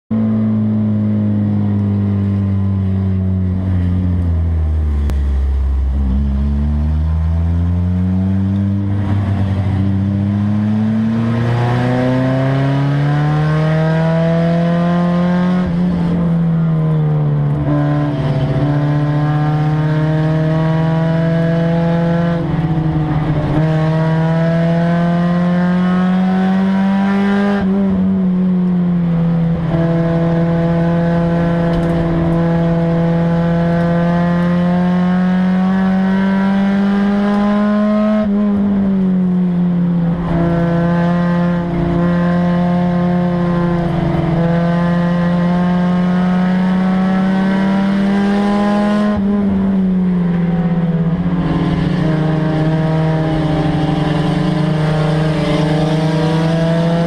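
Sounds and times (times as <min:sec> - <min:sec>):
race car engine under load: 0:00.1 - 0:57.0.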